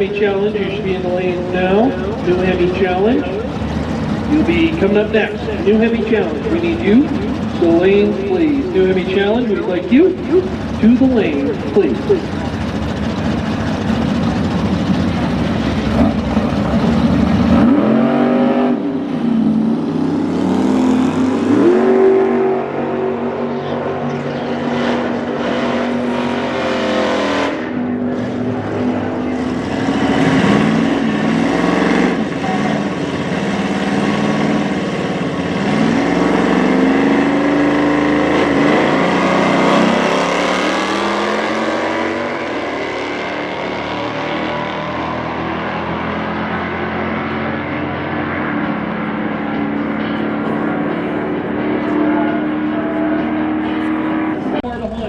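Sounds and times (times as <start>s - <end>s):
deep engine rumble: 0.0s - 55.0s
engines revving: 0.0s - 55.0s.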